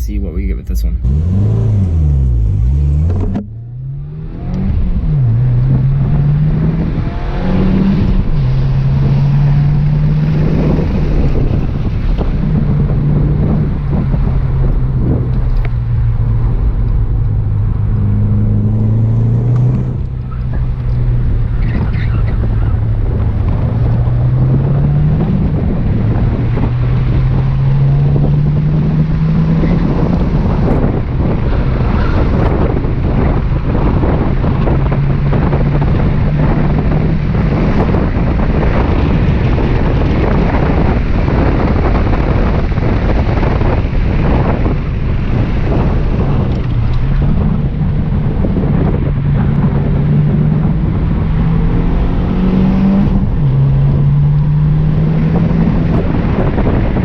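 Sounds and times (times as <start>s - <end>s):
car engine revving: 0.0s - 57.0s
road noise: 0.0s - 57.0s
wind noise: 0.0s - 57.0s.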